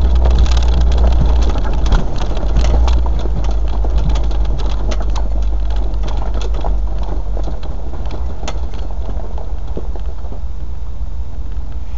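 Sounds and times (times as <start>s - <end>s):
sharp clicks and knocks: 0.0s - 10.4s
low engine rumble: 0.0s - 11.9s.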